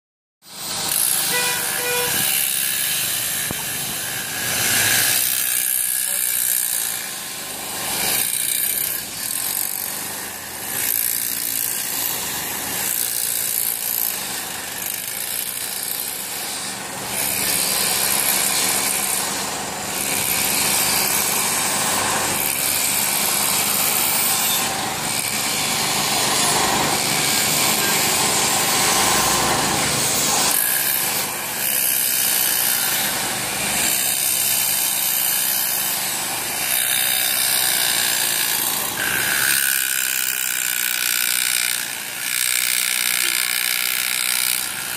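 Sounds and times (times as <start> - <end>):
street traffic passing: 0.5 - 39.5
electric power tool running: 0.5 - 44.9.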